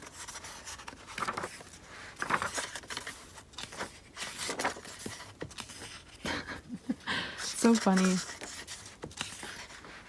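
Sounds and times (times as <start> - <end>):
paper pages rustling: 0.0 - 6.2, 7.4 - 10.0.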